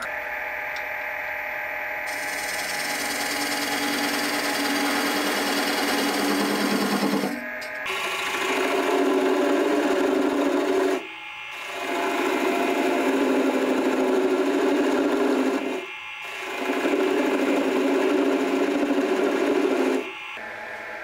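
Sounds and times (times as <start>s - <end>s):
turning tool cutting hiss: 2.1s - 20.2s
wood lathe running: 2.1s - 20.4s.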